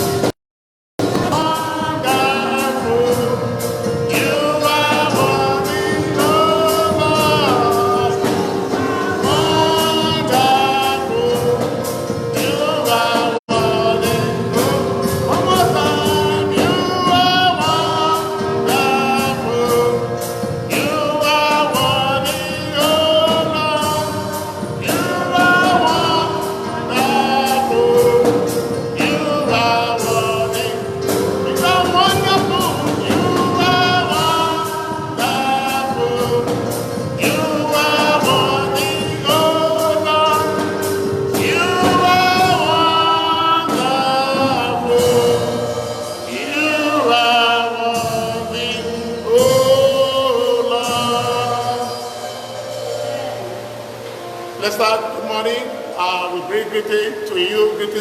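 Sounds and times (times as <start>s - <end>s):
gospel choir singing: 1.0s - 58.0s
steady beat: 1.0s - 58.0s.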